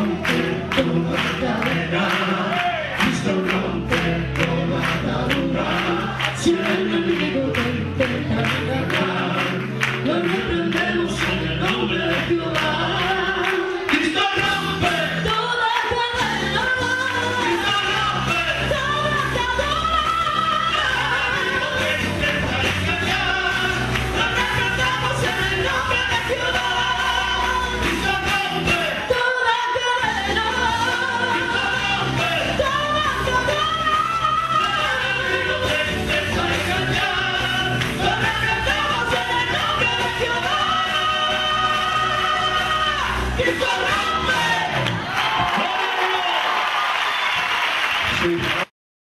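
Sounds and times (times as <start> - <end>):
woman and men singing: 0.0 - 45.6.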